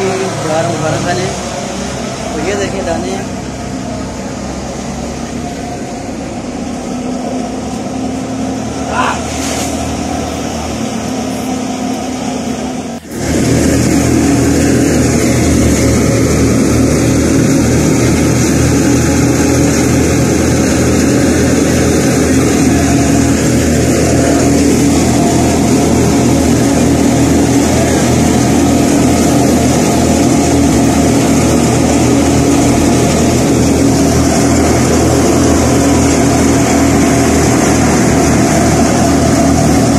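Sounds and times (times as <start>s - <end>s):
threshing machine engine drone: 0.0s - 39.9s.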